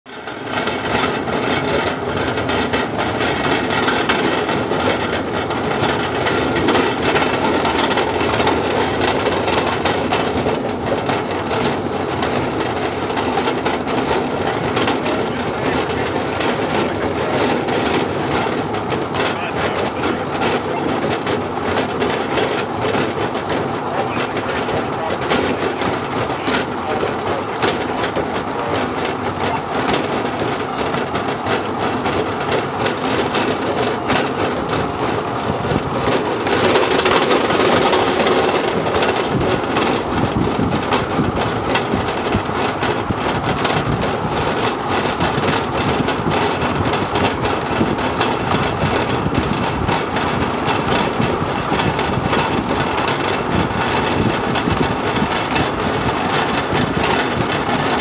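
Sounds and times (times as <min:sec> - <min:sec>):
steel wheels rattling on rails: 0:00.1 - 0:58.0.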